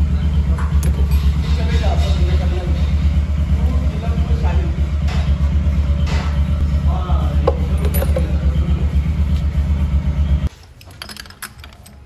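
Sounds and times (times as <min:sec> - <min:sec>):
engine idling: 0:00.0 - 0:10.5.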